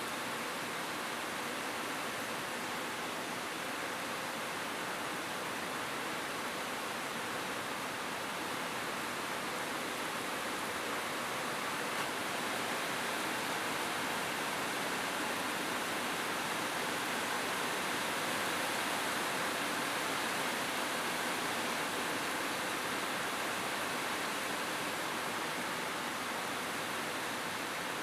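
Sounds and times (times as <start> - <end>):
rain falling on a roof: 0.0 - 28.0.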